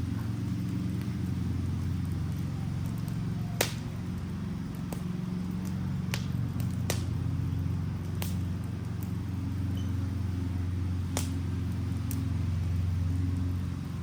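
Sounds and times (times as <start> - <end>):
fire crackling and popping: 0.0 - 14.0
wood fire low rumble: 0.0 - 14.0.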